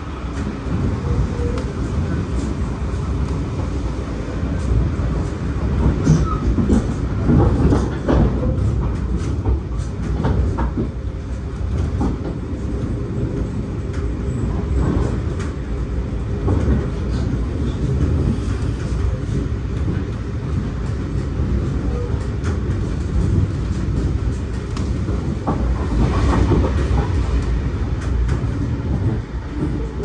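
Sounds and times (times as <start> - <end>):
wheels rumbling on rail: 0.0 - 30.0.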